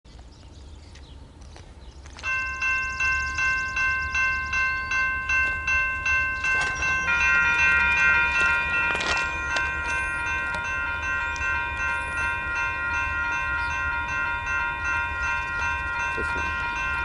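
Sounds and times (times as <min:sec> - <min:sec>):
crossing bells ringing: 0:02.2 - 0:17.0.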